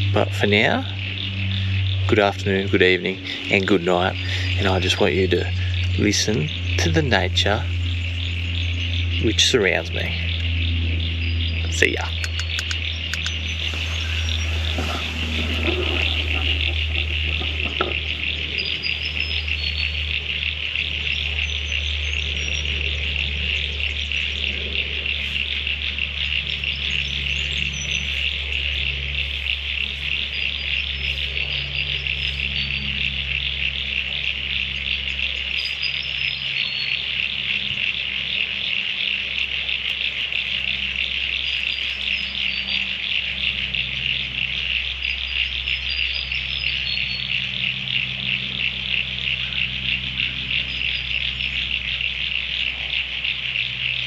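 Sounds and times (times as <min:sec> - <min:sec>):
frogs and insects trilling: 0:00.0 - 0:54.0
low steady hum: 0:00.0 - 0:54.0.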